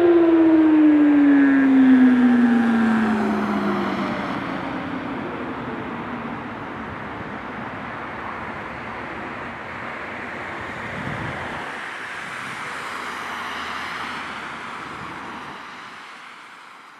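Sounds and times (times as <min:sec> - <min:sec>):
passing car rumble: 0:00.0 - 0:16.6
distant warning siren: 0:00.0 - 0:16.9
road noise: 0:00.0 - 0:16.9.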